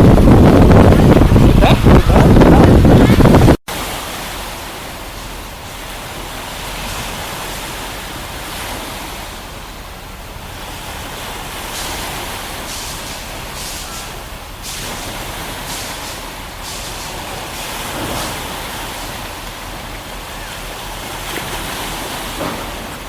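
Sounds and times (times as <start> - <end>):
sea waves washing onto beach: 0.0 - 23.0.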